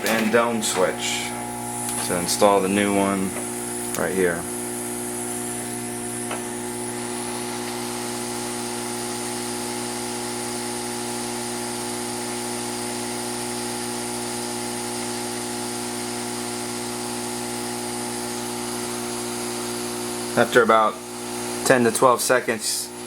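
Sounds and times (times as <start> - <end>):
heat gun motor whine and air hiss: 0.0 - 23.0.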